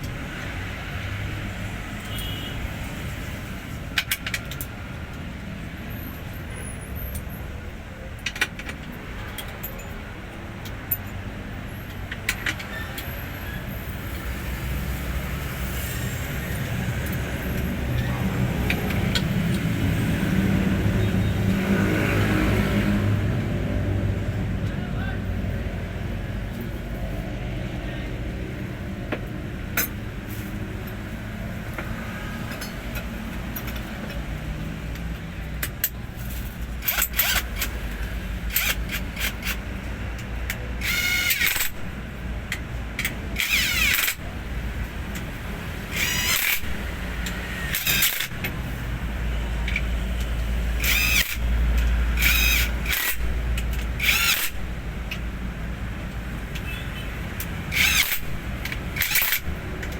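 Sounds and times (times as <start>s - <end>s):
vehicle engine humming: 4.4s - 59.9s.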